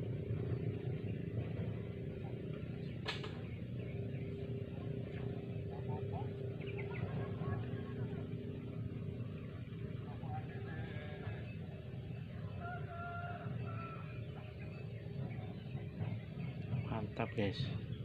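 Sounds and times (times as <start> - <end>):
droning hum: 0.0 - 18.0
steady low rumble: 0.0 - 18.0.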